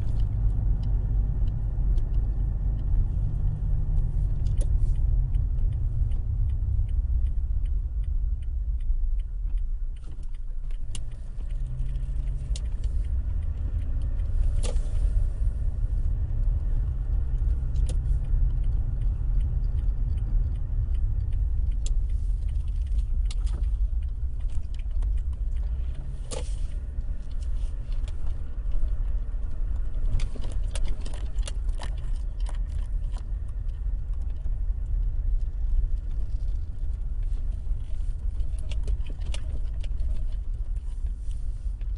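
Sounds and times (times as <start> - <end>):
pickup engine rumbling: 0.0 - 41.9.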